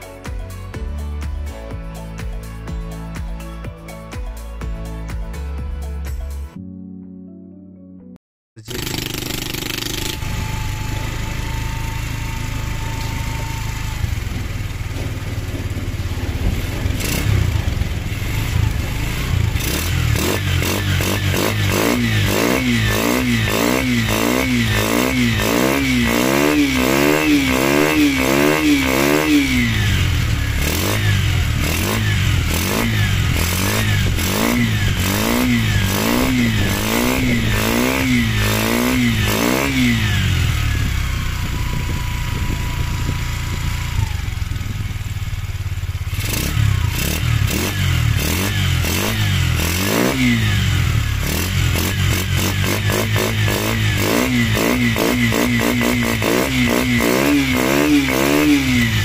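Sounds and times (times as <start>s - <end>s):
motorcycle engine revving: 8.6s - 59.0s.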